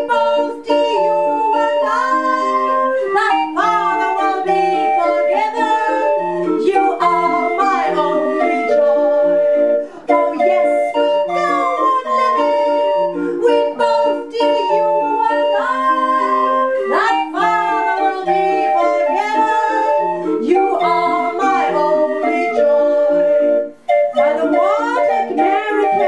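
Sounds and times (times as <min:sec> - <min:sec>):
woman singing: 0:00.0 - 0:23.4, 0:24.0 - 0:26.0
street organ playing tune: 0:00.0 - 0:26.0.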